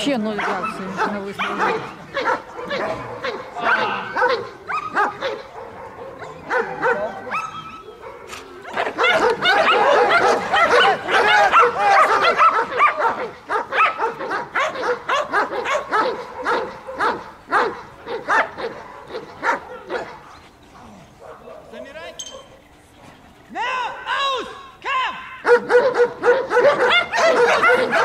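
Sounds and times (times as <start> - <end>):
dogs barking and yelping: 0.2 - 24.1, 25.2 - 28.0.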